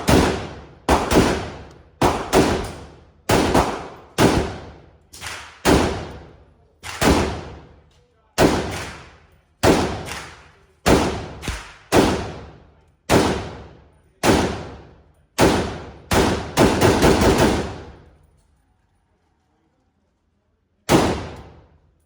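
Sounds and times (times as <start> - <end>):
echoing gunshots: 0.0 - 7.8, 8.4 - 18.1, 20.9 - 21.7.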